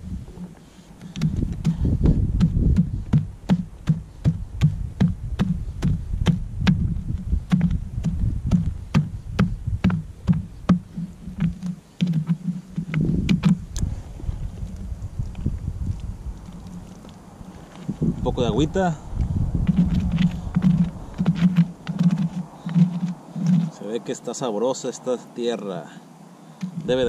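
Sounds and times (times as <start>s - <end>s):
shovel knocks and scrapes in soil: 0.4s - 18.2s, 19.6s - 24.0s, 26.6s - 27.0s.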